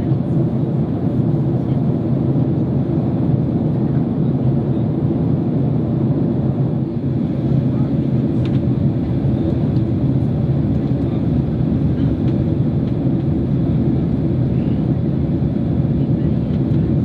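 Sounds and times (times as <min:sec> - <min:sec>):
airliner cabin roar: 0:00.0 - 0:17.0.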